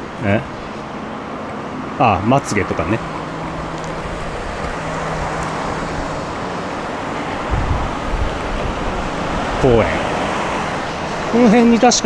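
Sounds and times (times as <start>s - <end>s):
hum of road traffic: 0.0s - 12.0s.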